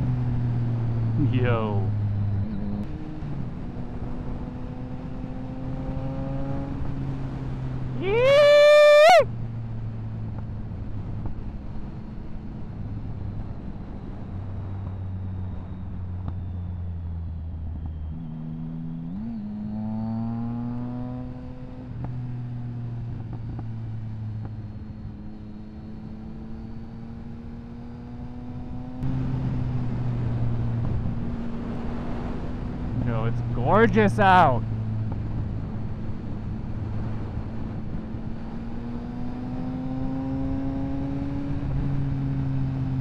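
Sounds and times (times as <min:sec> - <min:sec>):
road and wind noise: 0:00.0 - 0:43.0.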